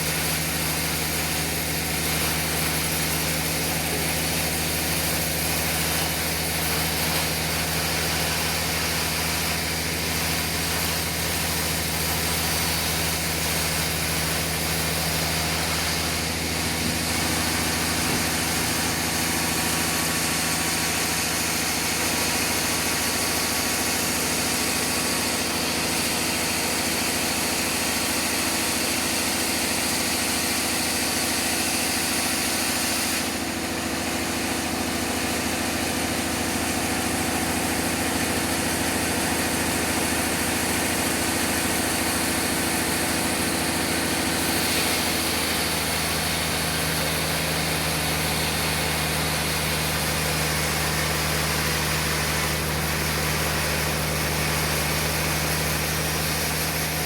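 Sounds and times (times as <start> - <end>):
sawmill machinery hum: 0.0 - 57.0.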